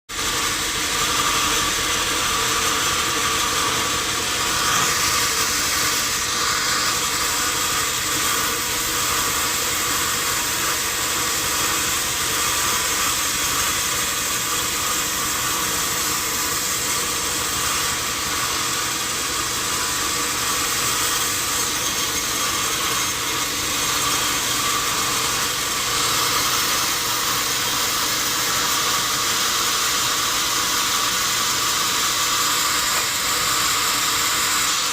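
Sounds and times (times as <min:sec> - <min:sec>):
sawmill machinery rushing noise: 0:00.1 - 0:34.9.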